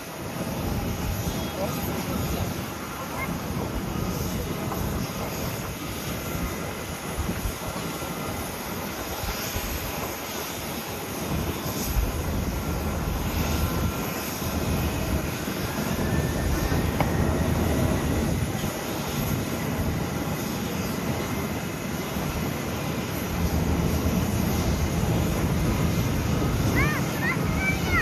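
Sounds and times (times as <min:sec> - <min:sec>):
faint high engine whine: 0:00.0 - 0:28.0
jet engines rumbling: 0:00.0 - 0:28.0.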